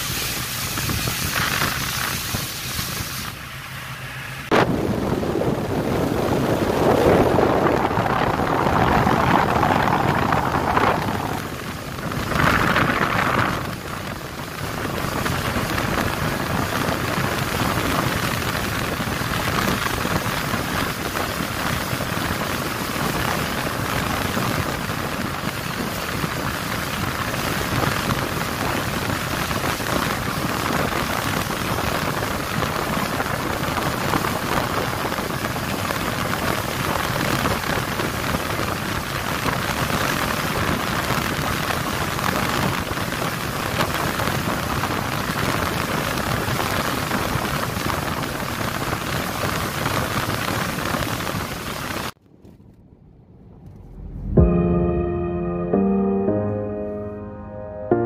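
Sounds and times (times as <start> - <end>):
water rushing past hull: 0.0 - 52.2
wind rushing: 0.6 - 52.2, 52.9 - 55.7.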